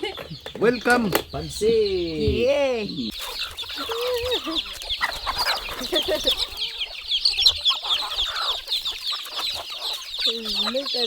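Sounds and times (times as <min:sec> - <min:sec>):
chickens clucking: 0:00.0 - 0:11.0
high chirps chatter: 0:00.0 - 0:11.0.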